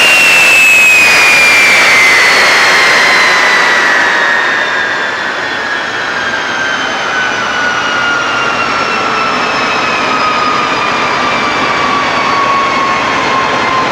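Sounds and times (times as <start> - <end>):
jet engine roar with whine: 0.0 - 13.9.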